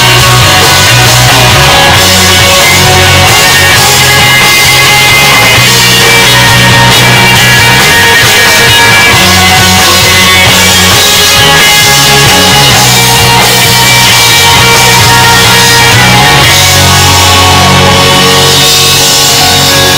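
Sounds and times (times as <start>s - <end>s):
country-rock band playing: 0.0s - 19.9s.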